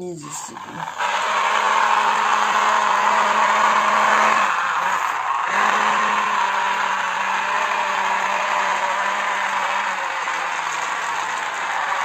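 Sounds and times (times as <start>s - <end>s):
toy excavator mechanical whirr: 0.3s - 12.0s.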